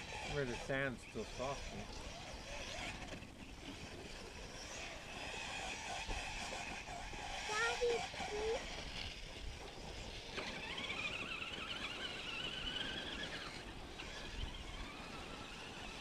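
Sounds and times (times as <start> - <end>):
rc truck motor whining: 0.0 - 16.0.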